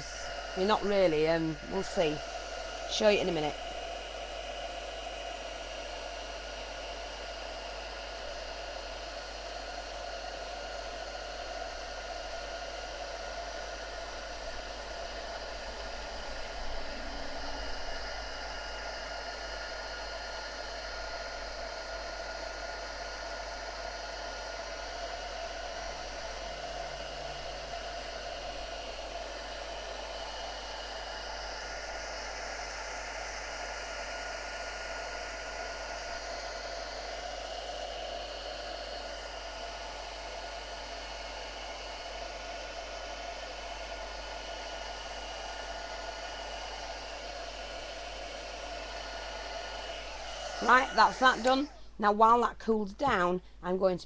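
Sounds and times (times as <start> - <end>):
heat gun blowing with faint whine: 0.0 - 52.0.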